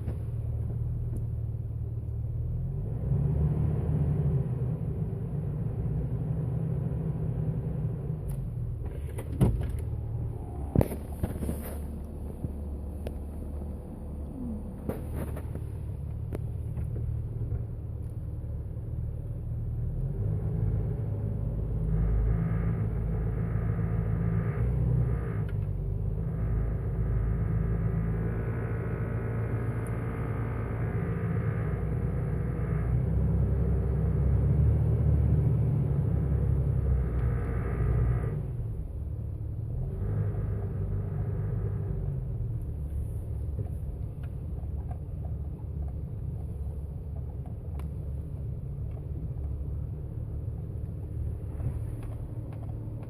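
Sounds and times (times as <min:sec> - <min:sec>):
engine rumbling at low rpm: 0:00.0 - 0:53.0.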